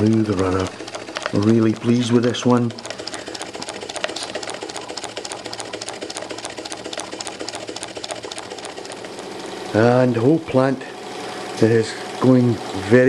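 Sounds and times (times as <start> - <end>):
steam engine clicking and chuffing: 0.0 - 13.0.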